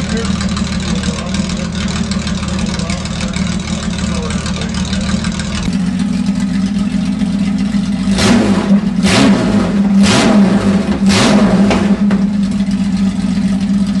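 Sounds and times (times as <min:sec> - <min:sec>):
car engine idling: 0:00.0 - 0:14.0
engine throttle blips: 0:00.0 - 0:14.0.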